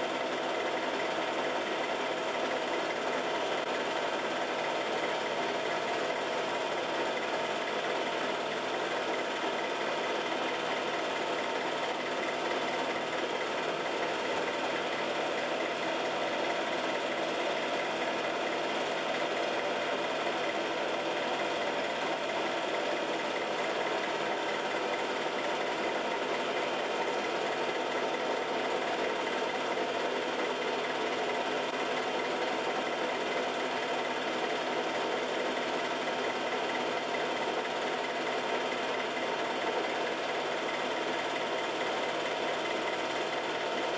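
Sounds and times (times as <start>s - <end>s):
film projector whirring: 0.0s - 43.9s.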